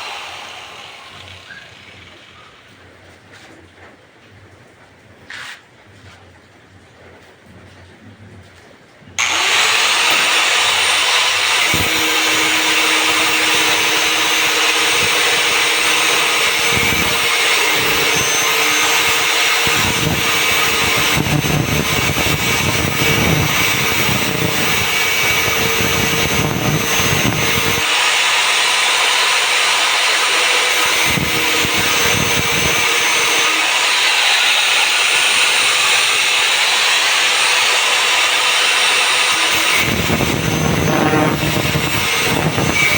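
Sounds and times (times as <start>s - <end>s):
angle grinder cutting metal: 0.0s - 2.7s, 9.2s - 42.9s.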